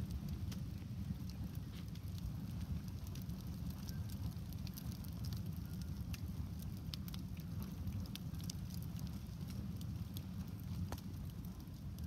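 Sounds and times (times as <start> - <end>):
campfire crackling and popping: 0.0 - 12.0
fire low rumble: 0.0 - 12.0.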